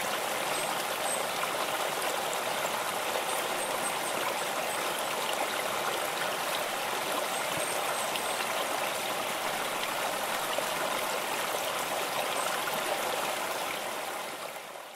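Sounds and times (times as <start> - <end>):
water rushing and trickling: 0.0 - 14.9.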